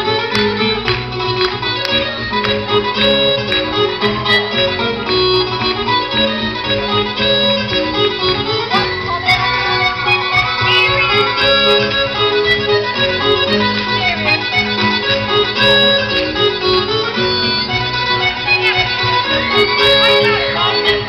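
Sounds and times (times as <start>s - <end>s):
fiddle playing dance tune: 0.0s - 21.0s
musical accompaniment: 0.0s - 21.0s.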